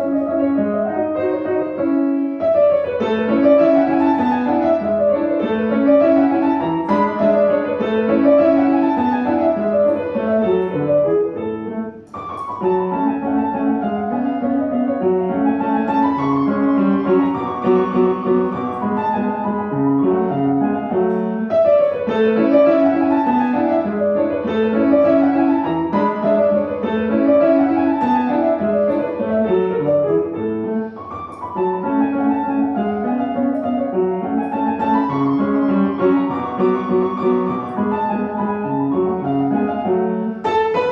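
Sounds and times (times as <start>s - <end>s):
solo piano piece: 0.0s - 40.9s.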